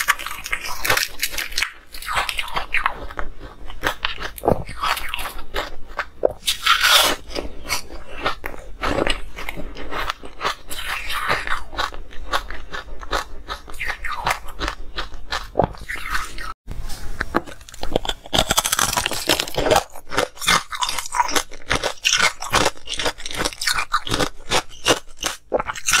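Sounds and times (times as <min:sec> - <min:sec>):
ice cubes being chewed: 0:00.0 - 0:16.5, 0:17.2 - 0:26.0.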